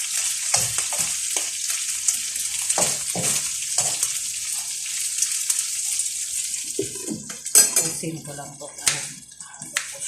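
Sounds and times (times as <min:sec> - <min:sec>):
food sizzling in hot oil: 0:00.0 - 0:10.0
stirring in a pan: 0:00.0 - 0:10.0.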